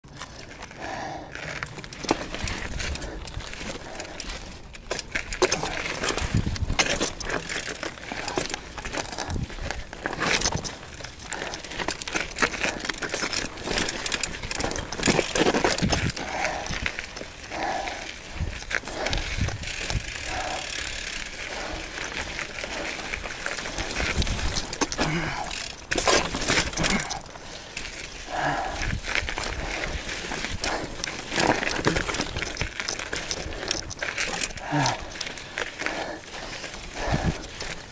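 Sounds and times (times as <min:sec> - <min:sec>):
tyres crunching on gravel: 0:00.0 - 0:37.9
bike rattling over rocks: 0:00.1 - 0:37.9.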